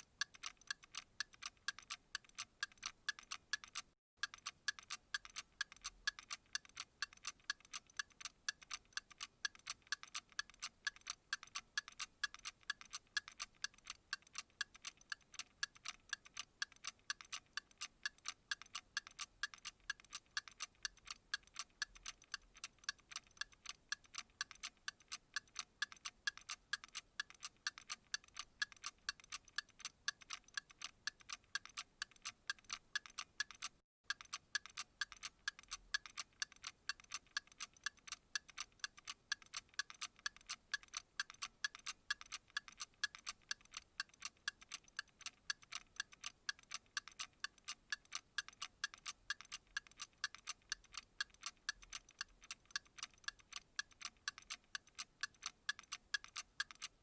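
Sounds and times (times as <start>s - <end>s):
steady sharp ticking: 0.0s - 57.0s.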